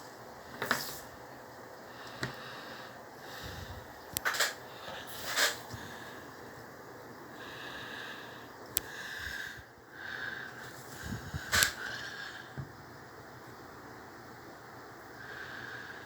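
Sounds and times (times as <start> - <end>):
desk fan running: 0.0 - 16.0.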